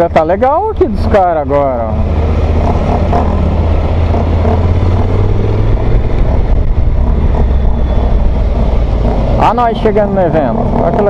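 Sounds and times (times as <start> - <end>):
tyres on wet road: 0.0 - 11.0
motorcycle engine running: 0.2 - 11.0
wind rushing: 1.8 - 11.0.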